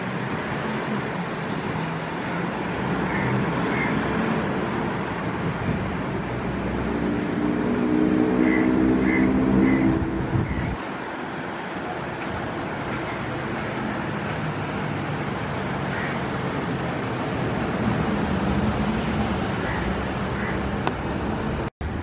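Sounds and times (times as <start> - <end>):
train rumbling past: 1.8 - 22.0.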